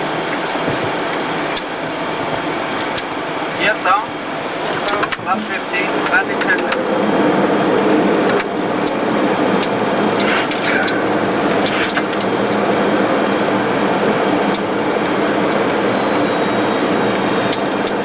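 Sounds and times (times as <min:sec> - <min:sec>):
airplane cockpit noise: 0:00.0 - 0:18.0.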